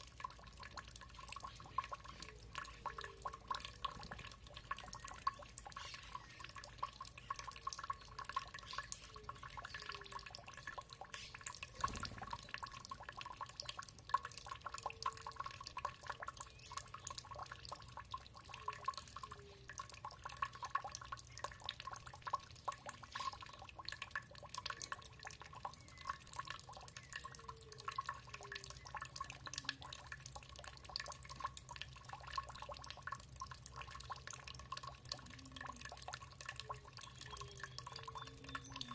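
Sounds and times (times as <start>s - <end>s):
water dripping and trickling: 0.0s - 38.9s.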